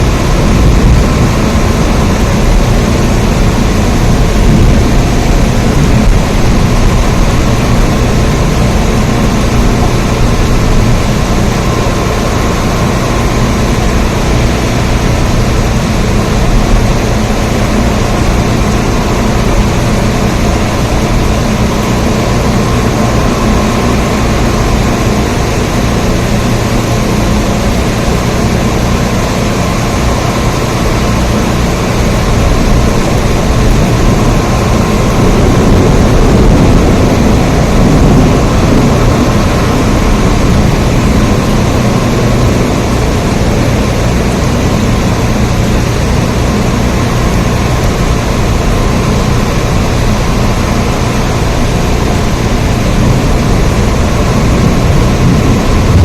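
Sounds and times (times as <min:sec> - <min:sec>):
low rumble: 0:00.0 - 0:56.0
steady rain hissing: 0:00.0 - 0:56.0.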